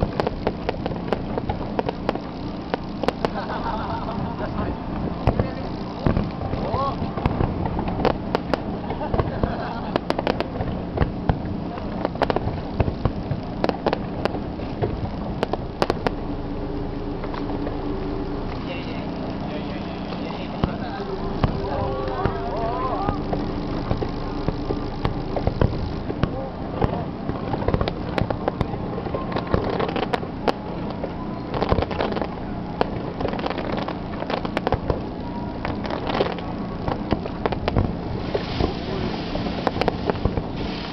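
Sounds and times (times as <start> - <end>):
continuous low rumble: 0.0 - 40.9
fireworks cracks and bangs: 0.0 - 40.9.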